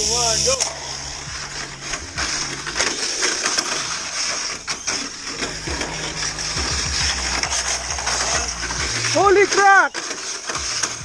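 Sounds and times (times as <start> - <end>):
toy car electric motor whine: 0.0 - 11.0
toy cars knocking on plastic track: 1.7 - 11.0.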